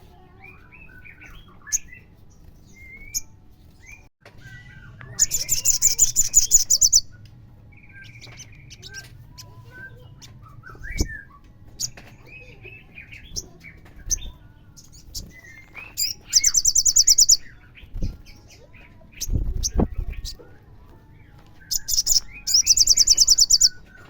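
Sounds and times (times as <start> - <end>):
sunbird chirps and trill: 0.1 - 20.3, 21.6 - 24.0.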